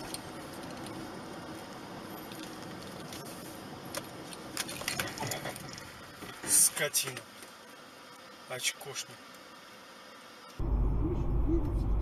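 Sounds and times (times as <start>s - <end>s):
car road and engine noise: 0.0s - 8.2s, 10.5s - 12.0s.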